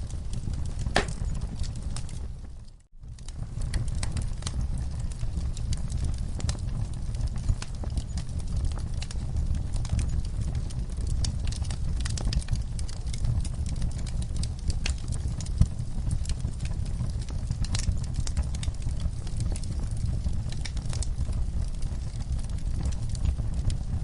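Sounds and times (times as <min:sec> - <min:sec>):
low rumble of burning logs: 0:00.0 - 0:24.0
wood fire crackling and popping: 0:00.0 - 0:24.0.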